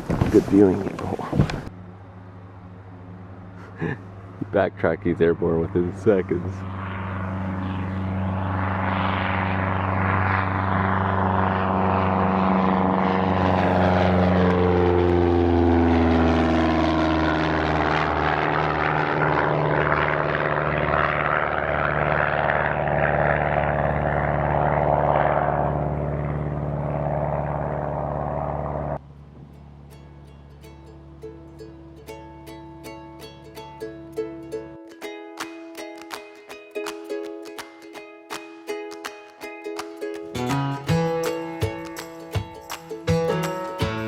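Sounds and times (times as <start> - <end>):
propeller airplane taking off: 0.0 - 44.0.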